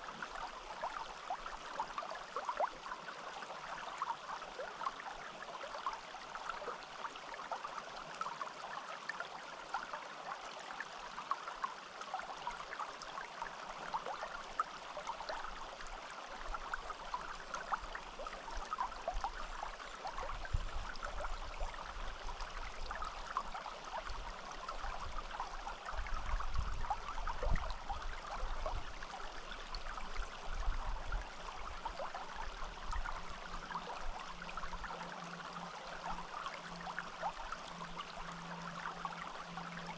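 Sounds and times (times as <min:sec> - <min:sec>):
stream flowing with splashes: 0:00.0 - 0:39.9.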